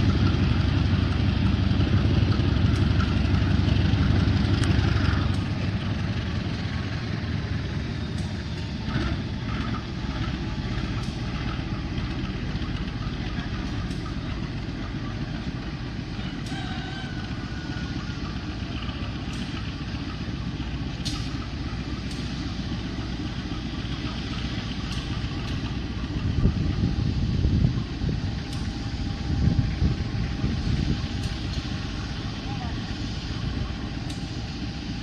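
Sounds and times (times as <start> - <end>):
diesel train rumbling: 0.0 - 35.0.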